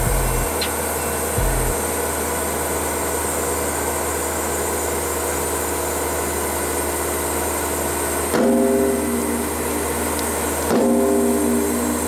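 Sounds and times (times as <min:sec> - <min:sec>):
road roller diesel engine drone: 0:00.0 - 0:12.0.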